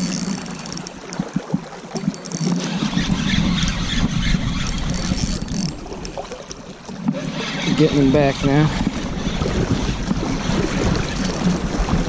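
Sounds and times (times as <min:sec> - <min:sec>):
wind buffeting microphone: 0:00.7 - 0:12.0.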